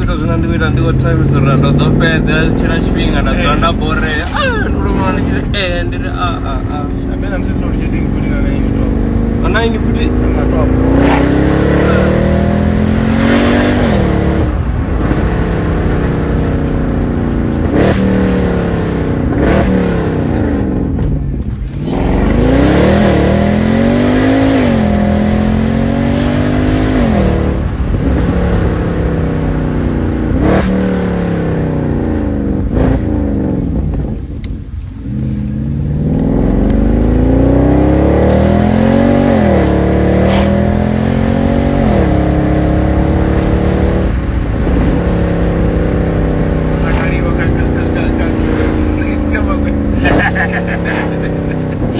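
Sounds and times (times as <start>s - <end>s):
car engine accelerating through gears: 0.0s - 51.9s.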